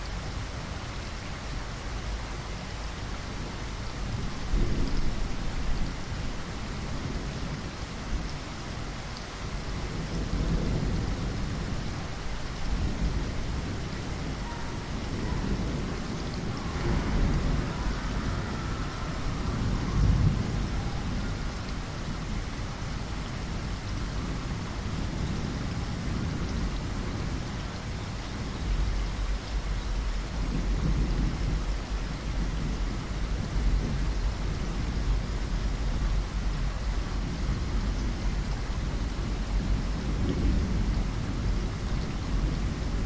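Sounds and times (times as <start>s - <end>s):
steady rain falling: 0.0s - 43.0s
low thunder rumbling: 1.4s - 43.0s.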